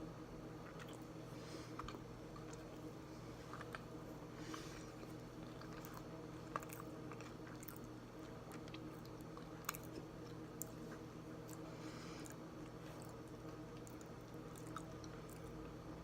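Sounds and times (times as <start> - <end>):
chewing mouth sounds: 0.6 - 15.9.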